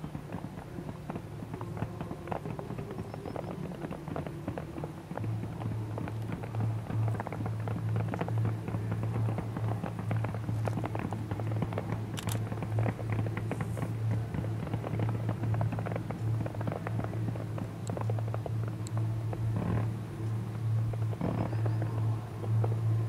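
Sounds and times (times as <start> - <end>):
fireworks popping and crackling: 0.0 - 23.0
steady low hum: 0.0 - 23.0.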